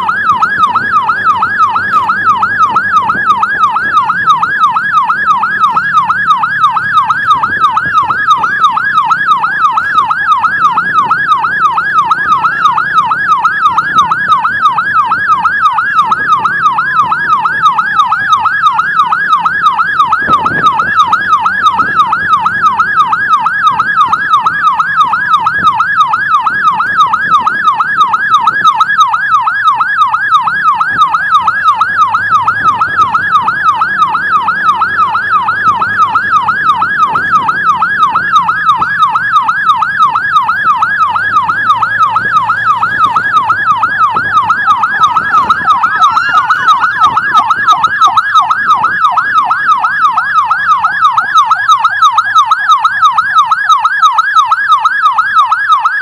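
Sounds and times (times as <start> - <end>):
siren tone sliding down: 0.0 - 56.0
siren yelping: 0.0 - 56.0.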